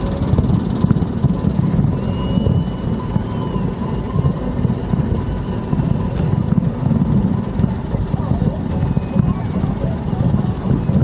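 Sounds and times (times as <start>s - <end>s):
distant fireworks rumble: 0.0s - 11.0s
faint fireworks crackles: 0.0s - 11.0s.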